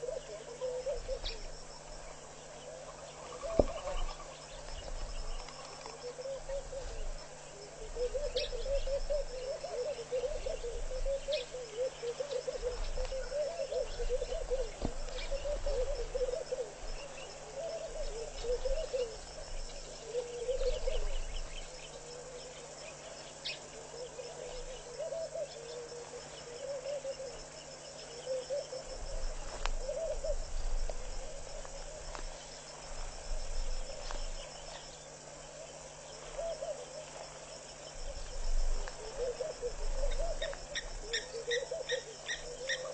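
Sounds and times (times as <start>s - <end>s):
high insect trill: 0.0s - 42.9s
warbling bird calls: 0.0s - 42.9s.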